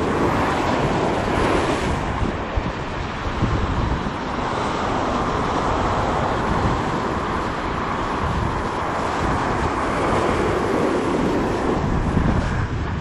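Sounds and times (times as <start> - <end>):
churning wake water: 0.0 - 13.0
wind on microphone: 0.0 - 13.0.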